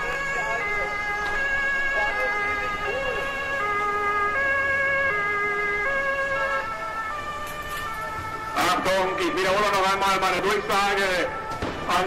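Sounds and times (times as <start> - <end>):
two-tone police siren: 0.0 - 12.0.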